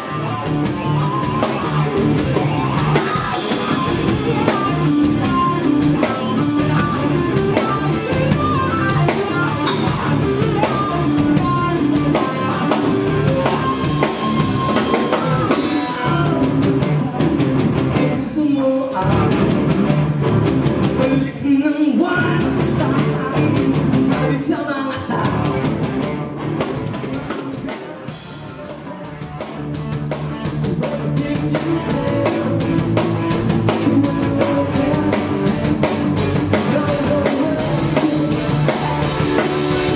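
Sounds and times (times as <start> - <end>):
drum kit: 0.0 - 39.9
electric guitars: 0.0 - 39.9
lead singer: 0.0 - 39.9.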